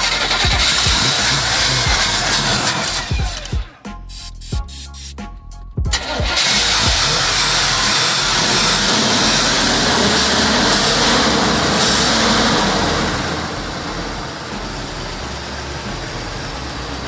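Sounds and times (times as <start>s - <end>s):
car engine running: 0.0s - 4.1s, 5.8s - 17.0s.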